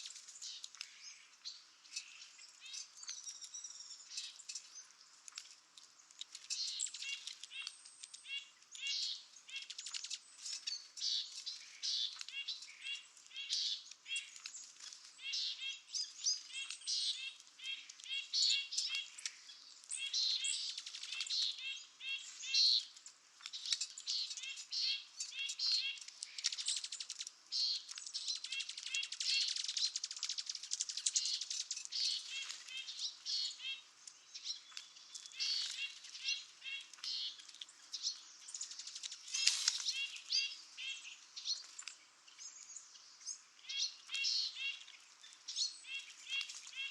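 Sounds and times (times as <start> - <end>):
birds chirping and twittering: 0.0 - 46.9.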